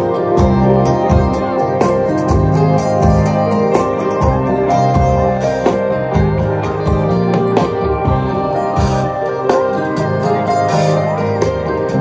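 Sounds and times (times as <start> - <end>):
live band music over loudspeakers: 0.0 - 12.0.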